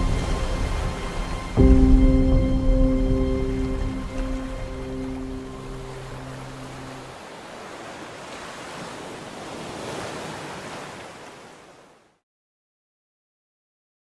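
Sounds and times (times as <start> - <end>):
sea waves washing onto shore: 0.0 - 12.2.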